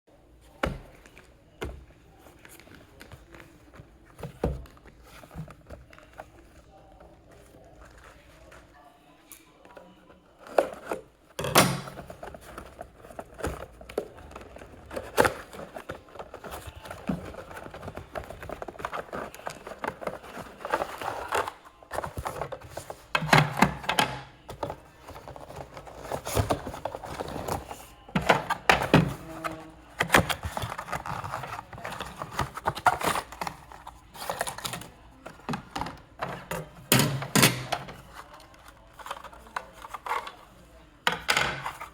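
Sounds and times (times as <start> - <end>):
packaging rustling and crinkling: 1.9 - 8.8, 9.8 - 37.0.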